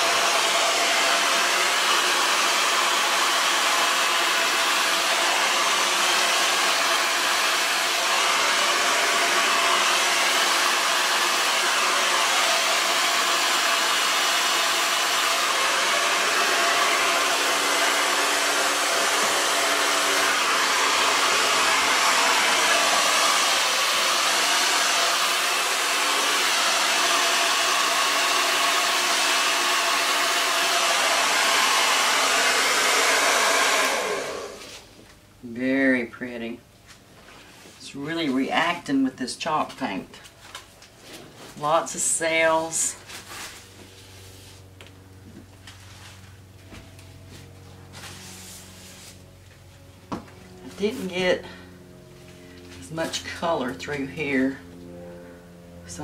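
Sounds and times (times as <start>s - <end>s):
hair dryer running: 0.0s - 35.6s, 37.6s - 56.0s.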